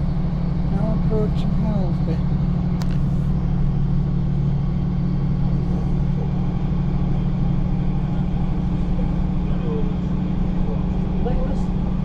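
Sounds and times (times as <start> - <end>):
train engine hum: 0.0 - 12.0.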